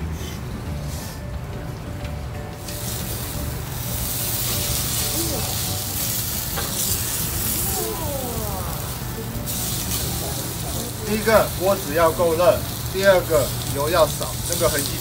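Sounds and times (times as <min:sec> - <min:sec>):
meat sizzling in grill pan: 0:02.6 - 0:15.0.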